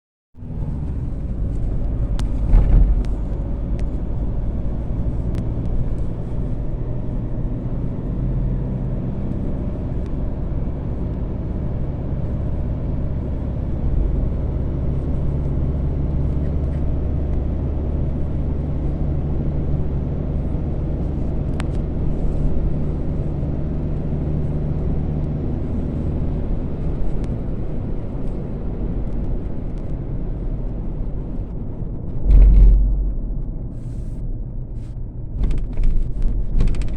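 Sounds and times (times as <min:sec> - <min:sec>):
motor vehicle rumble: 0:00.4 - 0:36.9.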